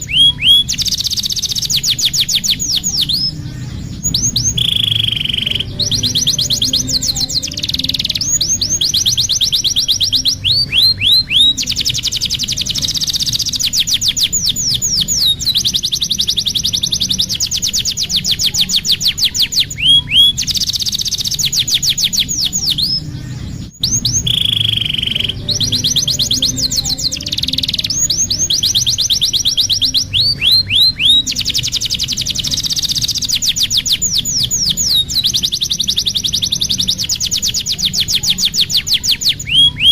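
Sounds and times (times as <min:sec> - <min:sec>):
canary singing trills: 0:00.0 - 0:39.9
steady low hum: 0:00.0 - 0:39.9.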